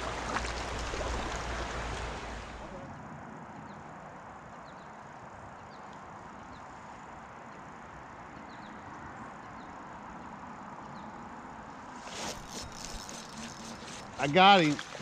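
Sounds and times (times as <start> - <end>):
river: 0.0 - 15.0
wind: 0.0 - 15.0.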